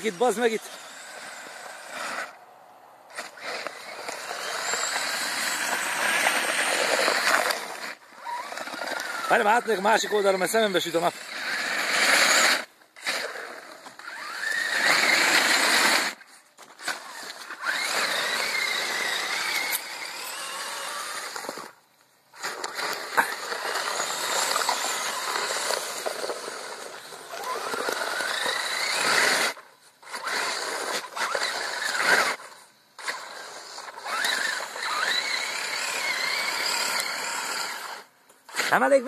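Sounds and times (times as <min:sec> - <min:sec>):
toy truck motor whining: 0:00.0 - 0:02.4, 0:03.1 - 0:39.0.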